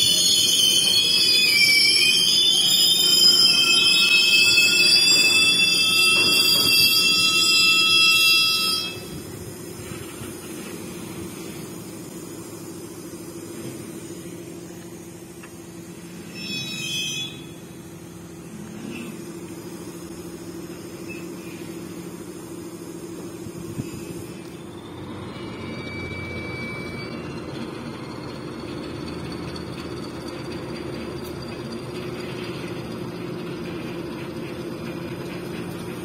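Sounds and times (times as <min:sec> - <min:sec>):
rumble of wheels on rail: 0:00.0 - 0:36.0
train wheel squeal: 0:00.0 - 0:36.0.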